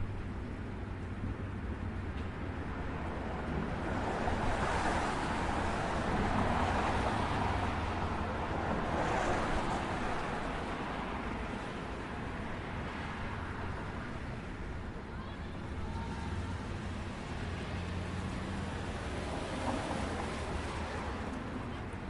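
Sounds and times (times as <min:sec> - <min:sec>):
city street traffic rumble: 0:00.0 - 0:22.0
vehicles passing: 0:00.0 - 0:22.0.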